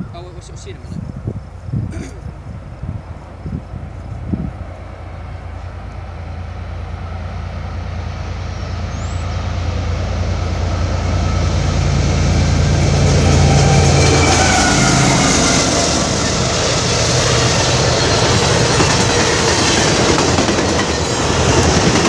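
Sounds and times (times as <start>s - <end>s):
locomotive engine rumble: 0.0s - 22.0s
rail noise: 0.0s - 22.0s.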